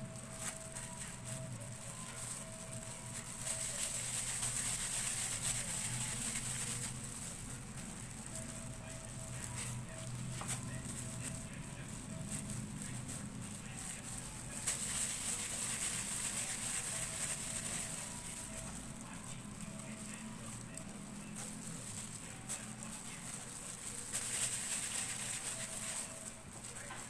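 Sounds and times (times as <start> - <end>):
plastic gloves crinkling: 0.0 - 27.0.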